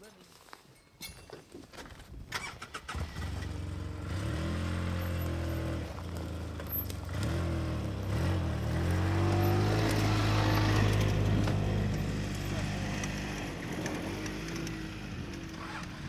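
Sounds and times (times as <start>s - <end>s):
truck engine accelerating: 2.9s - 16.0s.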